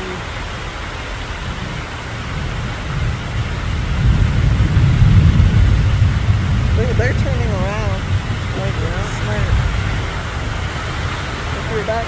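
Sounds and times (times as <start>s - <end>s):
floodwater rushing: 0.0s - 12.0s
low rumble: 0.2s - 12.0s.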